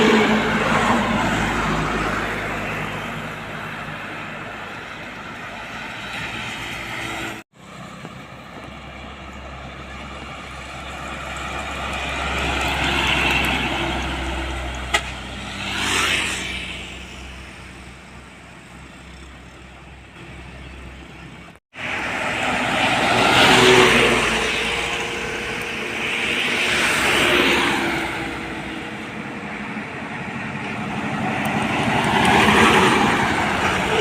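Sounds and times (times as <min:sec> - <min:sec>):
highway traffic passing: 0:00.0 - 0:34.0.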